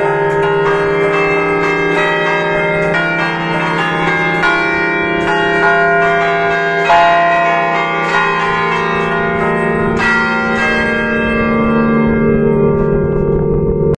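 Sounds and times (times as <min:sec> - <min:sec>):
bells humming deeply: 0:00.0 - 0:13.9
church bells ringing: 0:00.0 - 0:13.9.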